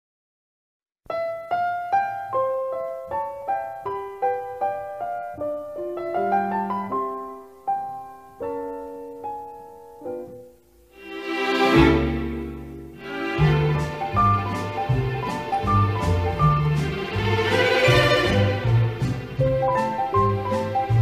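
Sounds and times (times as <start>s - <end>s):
gentle piano melody: 1.1s - 21.0s.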